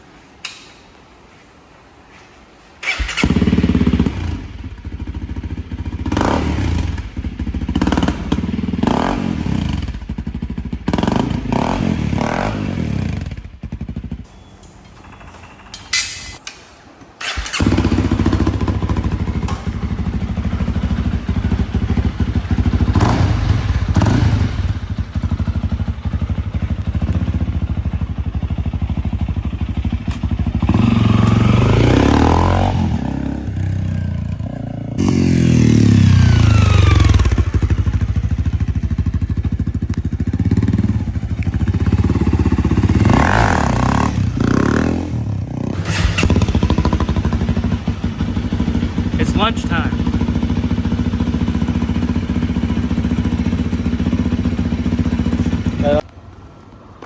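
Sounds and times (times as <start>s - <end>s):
motorcycle engine revving: 2.8s - 14.3s, 17.2s - 56.1s.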